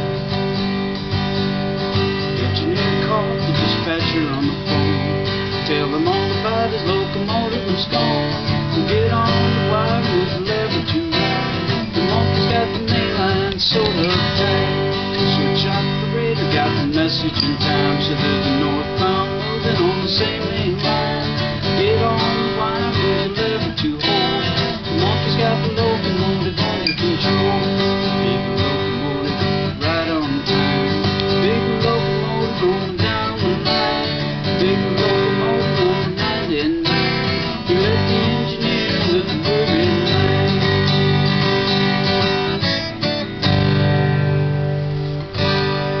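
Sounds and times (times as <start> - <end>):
acoustic guitar: 0.0 - 46.0.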